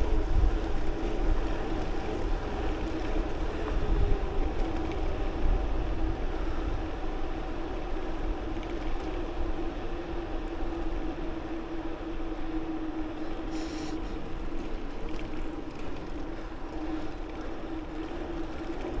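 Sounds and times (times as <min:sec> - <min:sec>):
bicycle rolling on road: 0:00.0 - 0:19.0.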